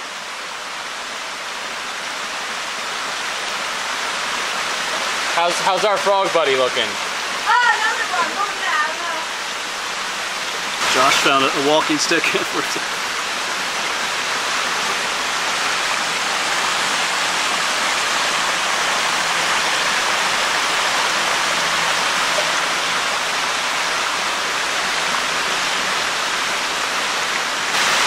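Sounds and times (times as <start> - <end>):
small waterfall rushing: 0.0 - 28.0.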